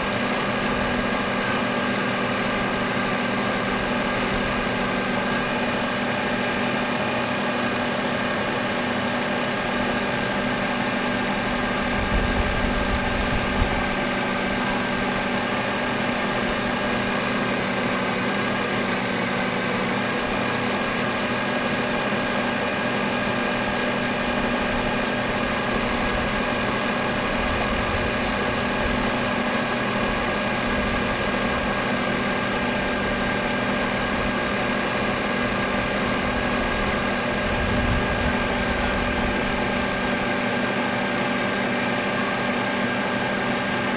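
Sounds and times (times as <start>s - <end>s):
boat motor whine: 0.0s - 43.9s.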